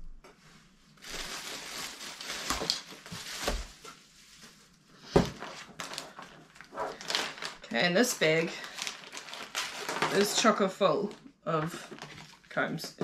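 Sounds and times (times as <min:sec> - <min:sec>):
plastic packaging crinkling: 0:01.0 - 0:04.5, 0:05.2 - 0:13.0.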